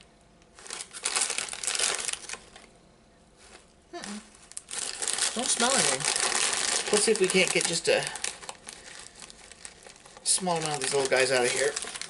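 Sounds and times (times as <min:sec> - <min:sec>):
plastic snack bag crinkling: 0:00.5 - 0:02.7, 0:03.4 - 0:12.0.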